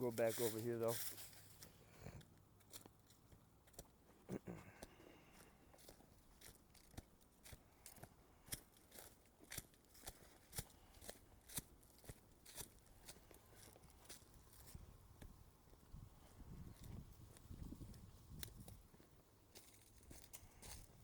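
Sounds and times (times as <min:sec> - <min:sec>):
footsteps crunching on trail: 0:00.0 - 0:21.0.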